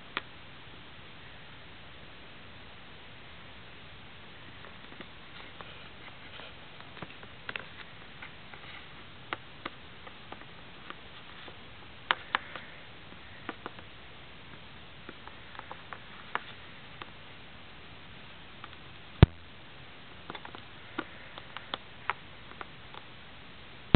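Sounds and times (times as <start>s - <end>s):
steady hiss: 0.0s - 23.9s.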